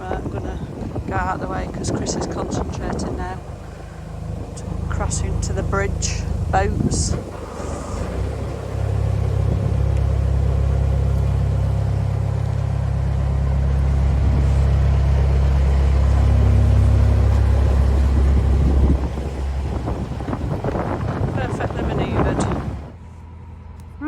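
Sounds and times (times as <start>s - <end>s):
boat diesel engine rumbling: 0.0s - 24.0s.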